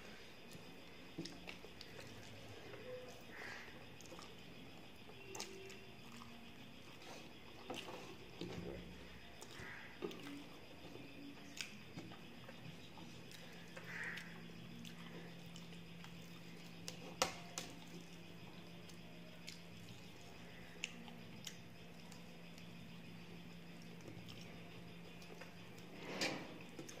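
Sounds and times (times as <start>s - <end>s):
steady low hum: 0.0s - 27.0s
soft chewing: 0.1s - 25.9s.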